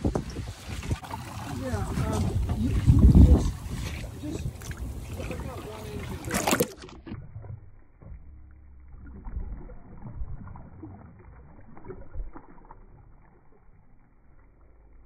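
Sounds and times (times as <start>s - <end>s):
water splashing against boat: 0.0s - 14.7s.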